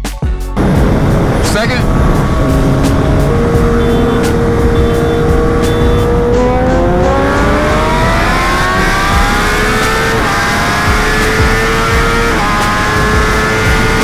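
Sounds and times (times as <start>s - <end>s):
motorcycle engine accelerating: 0.6s - 14.0s
wind rumble: 0.6s - 14.0s.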